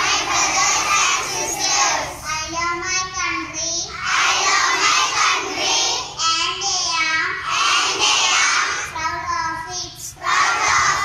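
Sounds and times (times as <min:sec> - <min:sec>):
children chanting into microphone: 0:00.0 - 0:11.0.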